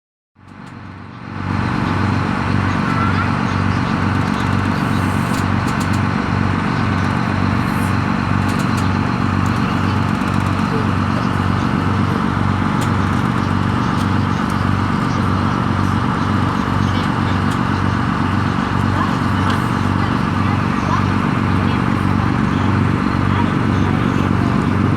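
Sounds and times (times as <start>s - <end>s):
boat engine humming: 0.4s - 24.9s.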